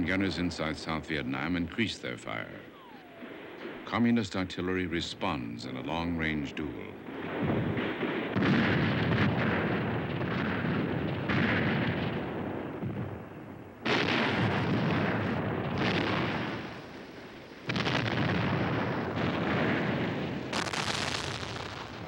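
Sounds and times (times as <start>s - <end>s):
artillery booms: 0.0s - 5.3s, 6.7s - 22.0s.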